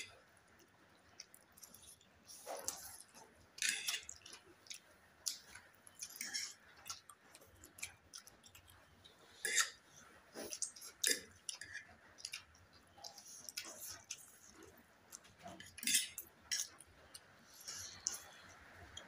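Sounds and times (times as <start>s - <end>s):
people slurping and chewing noodles: 0.0s - 19.0s.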